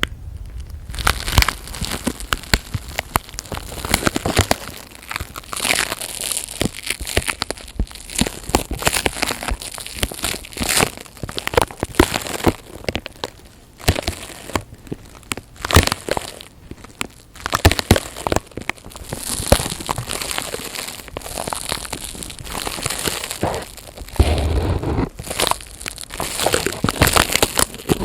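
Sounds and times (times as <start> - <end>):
crinkling and crackling: 0.0 - 28.0.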